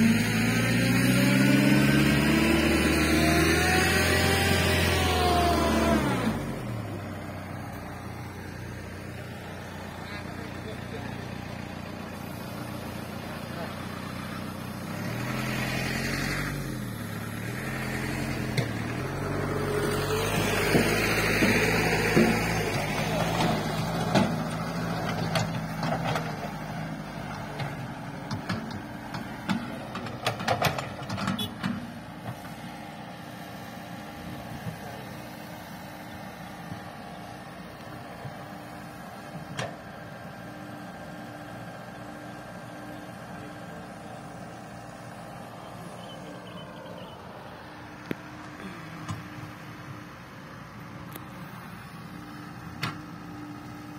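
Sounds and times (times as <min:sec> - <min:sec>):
dump truck engine revving: 0:00.0 - 0:53.9.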